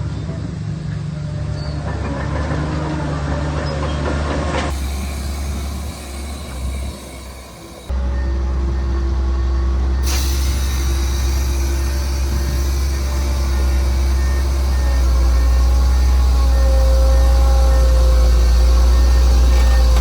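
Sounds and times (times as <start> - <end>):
heavy diesel machinery rumbling: 3.6 - 20.0.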